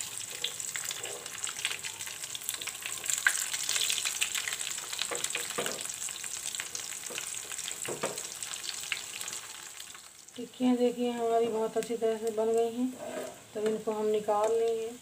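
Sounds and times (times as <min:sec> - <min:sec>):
food sizzling and crackling in oil: 0:00.0 - 0:15.0.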